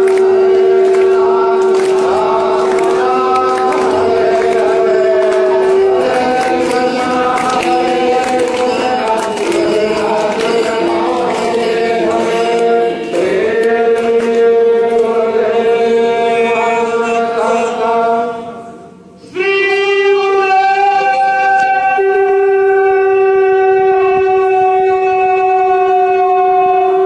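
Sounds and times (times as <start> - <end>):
devotional chanting: 0.0 - 27.0.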